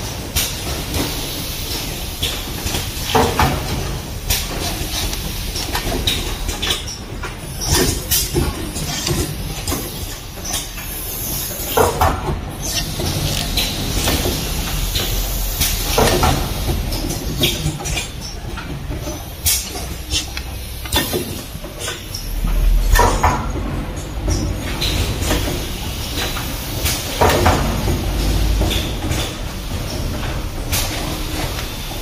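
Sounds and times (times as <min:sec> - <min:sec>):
mechanical clacks and knocks: 0:00.0 - 0:32.0.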